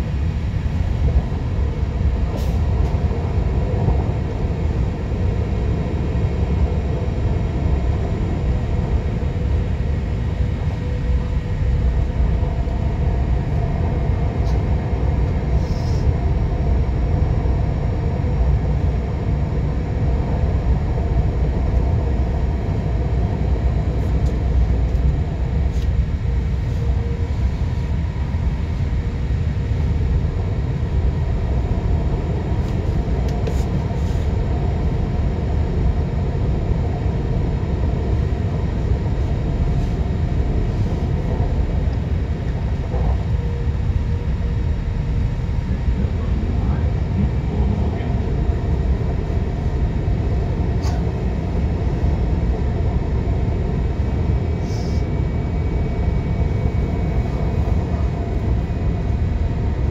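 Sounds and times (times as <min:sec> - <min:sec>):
train running low rumble: 0:00.0 - 0:59.9.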